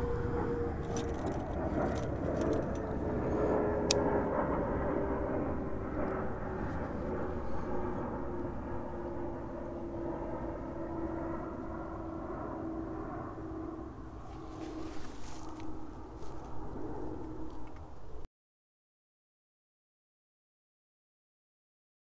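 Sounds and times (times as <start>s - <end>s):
airplane engine drone overhead: 0.0s - 18.3s.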